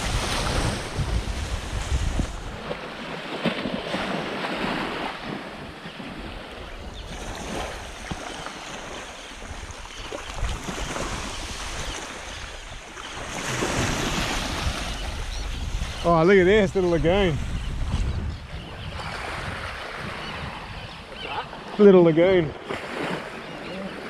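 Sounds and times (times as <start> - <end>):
small waves lapping on sand: 0.0 - 17.6, 18.5 - 24.0
wind buffeting microphone: 0.0 - 23.0.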